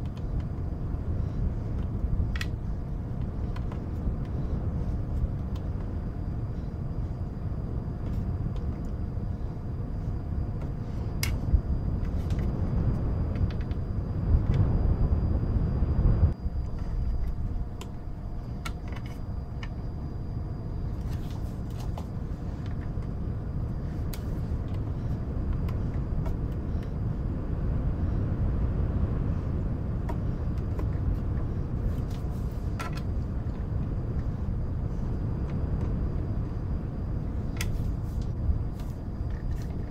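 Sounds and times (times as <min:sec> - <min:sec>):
low rumble of wind: 0:00.0 - 0:39.9.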